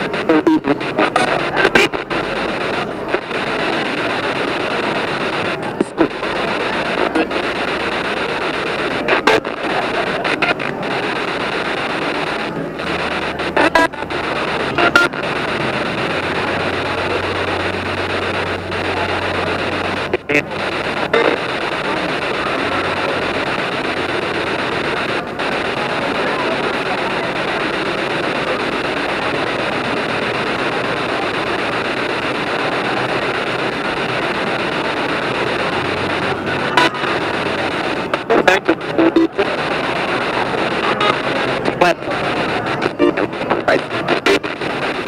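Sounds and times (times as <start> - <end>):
radio static hiss: 0.0 - 45.0
snatches of radio broadcast: 0.0 - 45.0.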